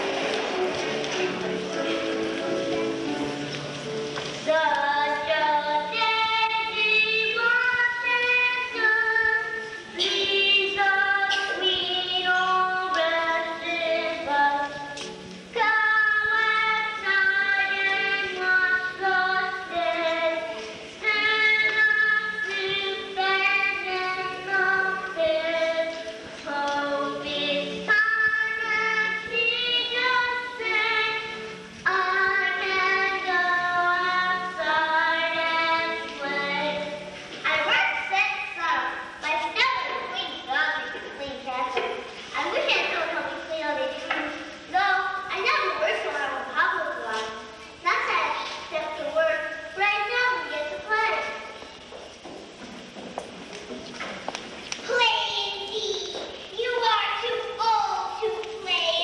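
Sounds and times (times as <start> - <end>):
girl singing: 4.4 - 51.6, 54.8 - 59.0.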